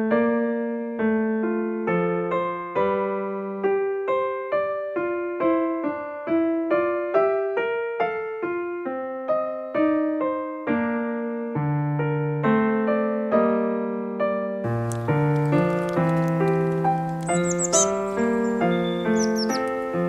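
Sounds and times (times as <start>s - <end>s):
electric piano melody: 0.0s - 20.0s.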